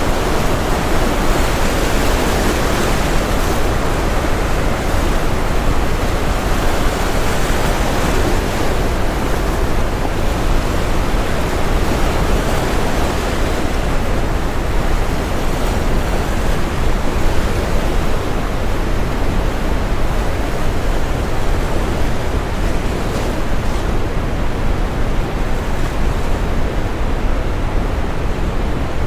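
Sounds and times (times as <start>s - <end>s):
ocean waves breaking: 0.0s - 29.0s
steady brown noise: 0.0s - 29.0s.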